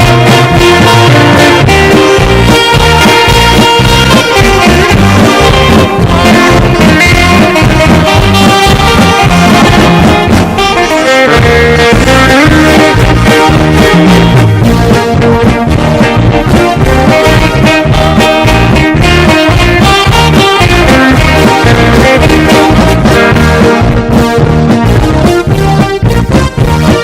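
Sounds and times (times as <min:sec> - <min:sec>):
drum kit beat: 0:00.0 - 0:27.0
electronic keyboard: 0:00.0 - 0:27.0
guitar: 0:00.0 - 0:27.0
saxophone melody: 0:00.0 - 0:27.0.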